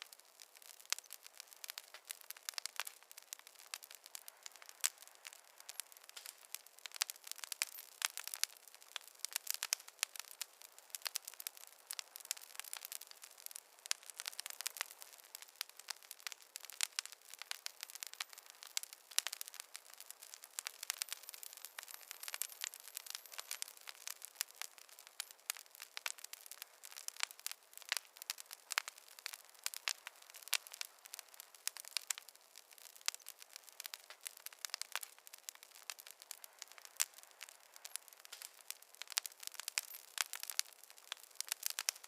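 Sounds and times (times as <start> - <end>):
faint fire hiss: 0.0 - 42.0
fire crackling with pops: 0.0 - 42.0.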